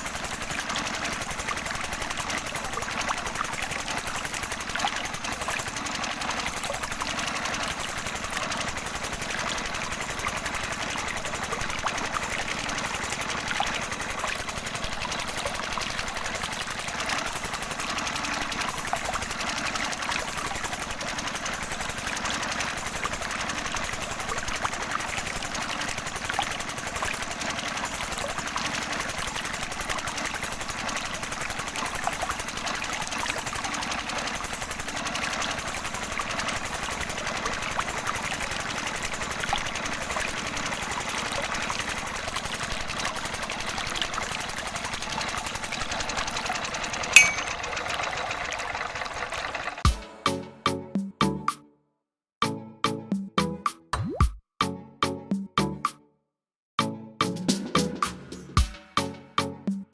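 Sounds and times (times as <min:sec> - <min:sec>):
small water pump motor rattling: 0:00.0 - 0:49.9.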